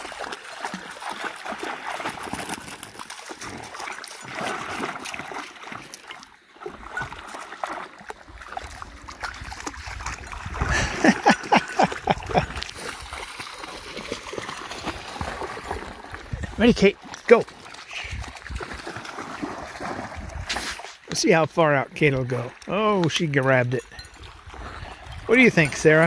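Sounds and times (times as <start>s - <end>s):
dogs splashing through water: 0.0s - 26.0s.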